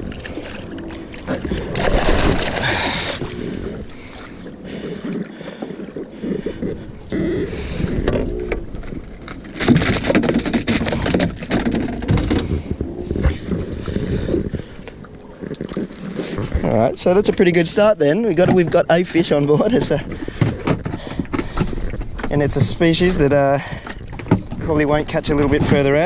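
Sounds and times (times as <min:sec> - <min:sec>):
knocks and rustles handling fish: 0:00.0 - 0:07.0, 0:07.8 - 0:26.0
water splashing around kayak: 0:00.0 - 0:26.0.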